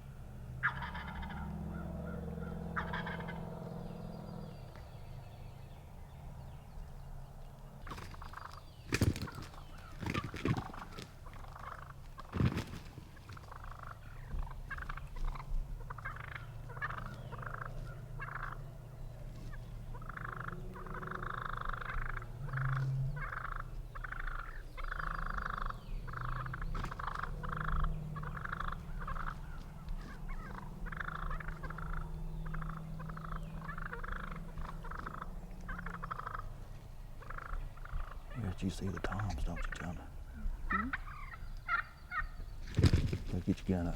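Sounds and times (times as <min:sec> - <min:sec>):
short repeated turkey calls: 0:00.6 - 0:03.6, 0:07.9 - 0:18.7, 0:19.4 - 0:43.9
turkeys gobbling: 0:00.6 - 0:04.5, 0:07.9 - 0:43.9.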